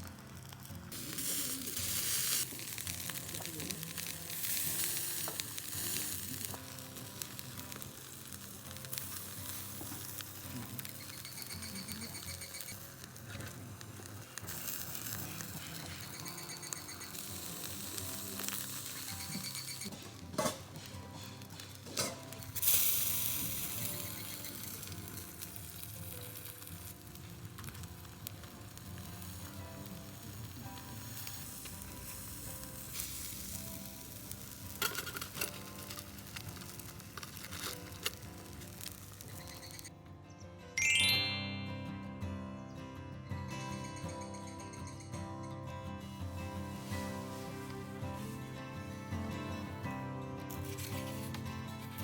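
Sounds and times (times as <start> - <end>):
fish sizzling on a grill: 0.0 - 39.9, 46.2 - 49.8, 50.5 - 52.0
soft background music: 0.0 - 52.0.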